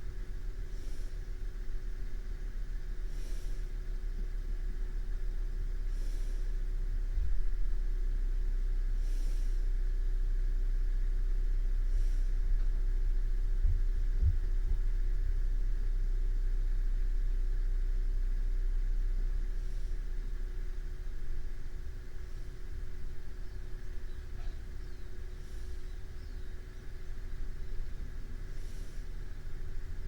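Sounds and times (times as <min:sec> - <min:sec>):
low rumble and hum: 0:00.0 - 0:30.0
slow breathing of sleeping person: 0:00.3 - 0:07.9, 0:08.6 - 0:10.6, 0:11.5 - 0:15.1, 0:18.8 - 0:30.0.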